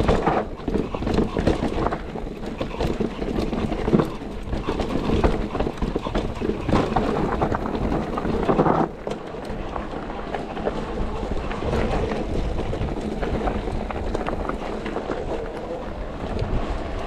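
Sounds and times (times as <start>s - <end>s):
bike chain and frame rattling: 0.0s - 17.0s.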